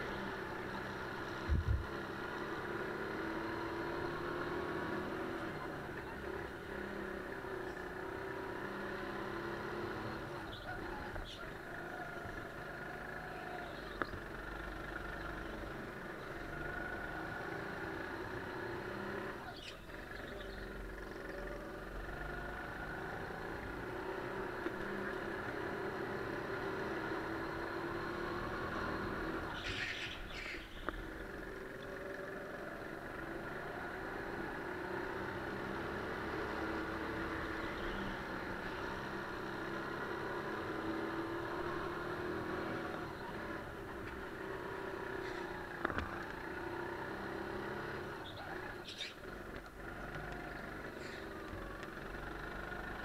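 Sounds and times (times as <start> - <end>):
kart engine accelerating: 0.0 - 53.0.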